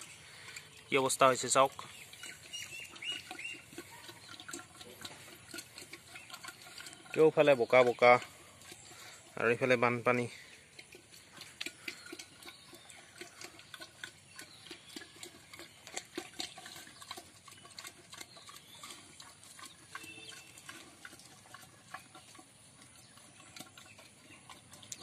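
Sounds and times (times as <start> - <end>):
pig slurping and chewing: 0.0 - 25.0.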